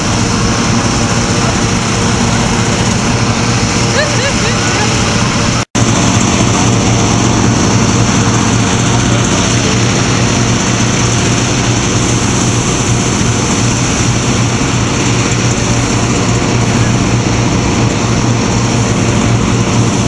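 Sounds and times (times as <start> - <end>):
inflator fan engine droning: 0.0 - 20.0.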